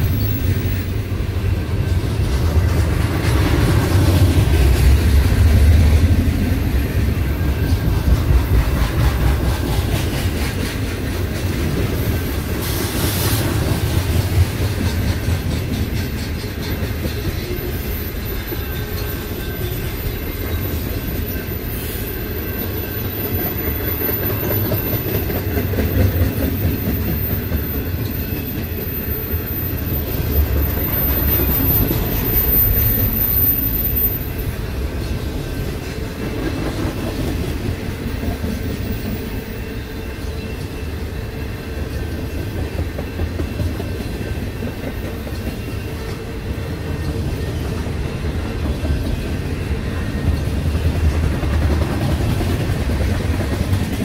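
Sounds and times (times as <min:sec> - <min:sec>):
train cars clickety-clack: 0:00.0 - 0:54.0
train wheels rumbling on rails: 0:00.0 - 0:54.0.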